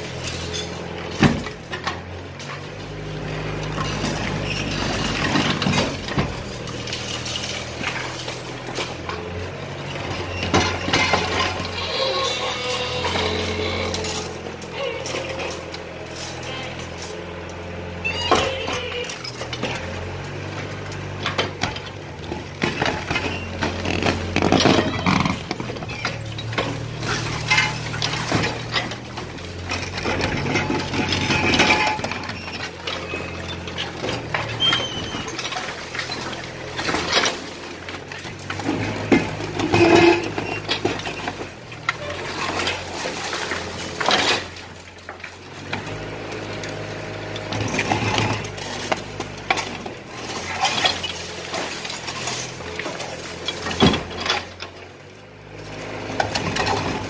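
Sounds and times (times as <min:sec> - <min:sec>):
excavator engine running: 0:00.0 - 0:57.0
rubble crunching and clattering: 0:00.0 - 0:57.0.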